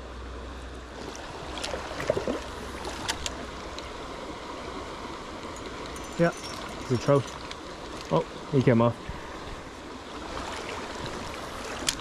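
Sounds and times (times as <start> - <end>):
river running over stones: 0.1 - 12.0.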